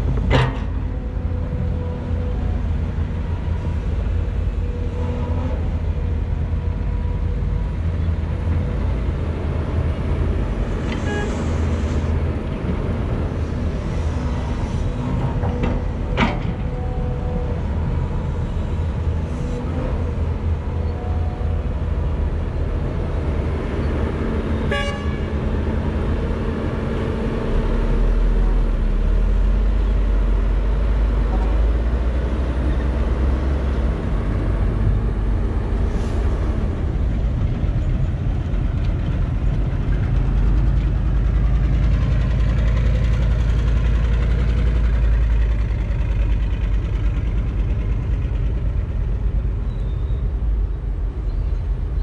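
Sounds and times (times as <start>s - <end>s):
excavator diesel engine running: 0.0s - 51.1s.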